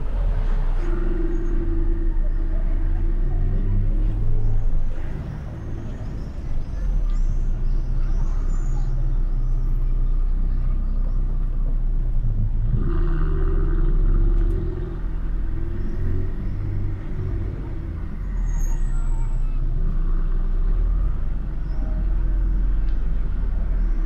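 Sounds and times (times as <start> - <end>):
car engines in traffic: 0.0 - 24.0.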